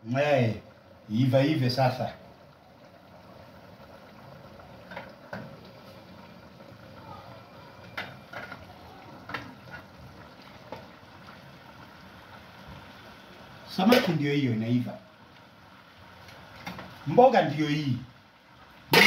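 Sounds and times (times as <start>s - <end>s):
pots simmering with bubbling hiss: 0.0s - 19.0s.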